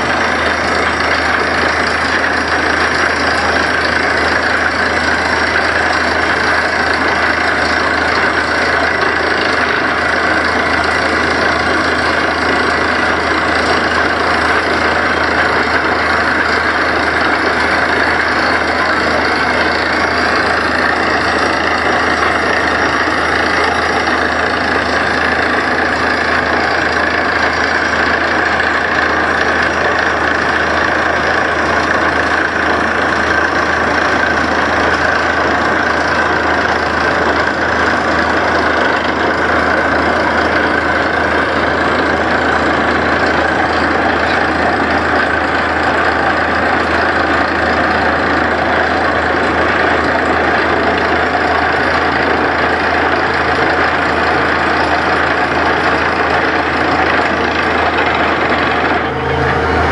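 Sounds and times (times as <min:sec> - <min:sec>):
drilling rig engine and compressor: 0:00.0 - 0:59.9.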